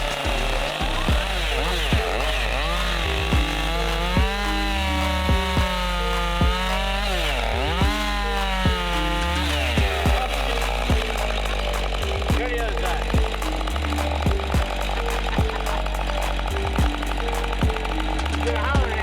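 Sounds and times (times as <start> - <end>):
background music with steady beat: 0.0 - 19.0
chainsaw cutting log: 0.0 - 19.0.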